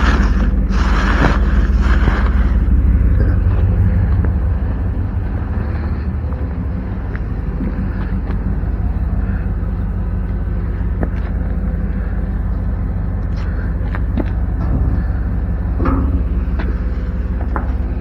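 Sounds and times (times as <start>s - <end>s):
car engine humming: 0.0s - 18.0s.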